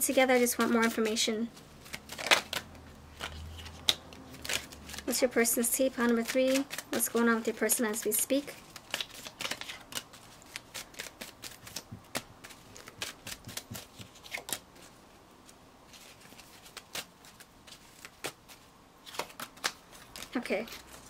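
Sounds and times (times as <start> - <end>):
cards being shuffled: 0.0 - 21.0.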